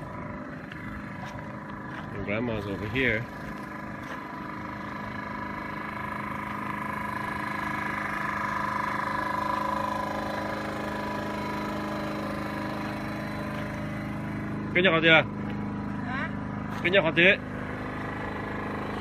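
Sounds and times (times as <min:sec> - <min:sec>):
steady engine hum: 0:00.0 - 0:19.0.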